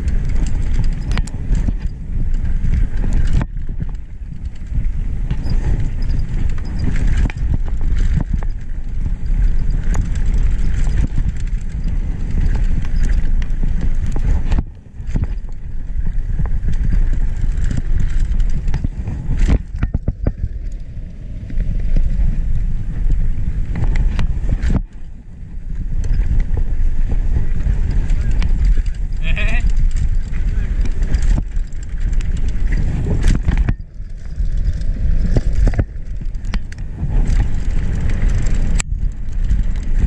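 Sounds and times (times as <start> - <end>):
bike rattling and knocking: 0.0 - 40.0
tyres rumbling on dirt: 0.0 - 40.0
wind buffeting microphone: 0.0 - 40.0.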